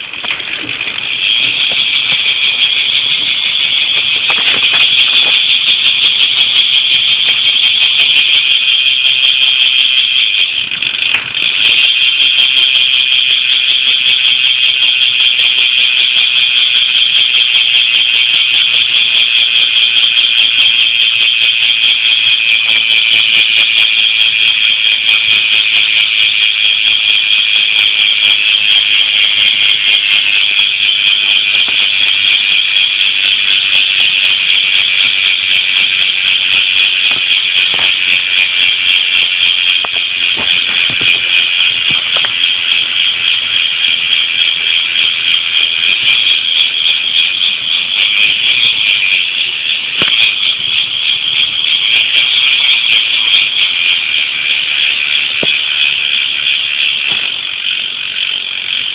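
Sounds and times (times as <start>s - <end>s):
bicycle freewheel buzzing: 0.0s - 58.9s.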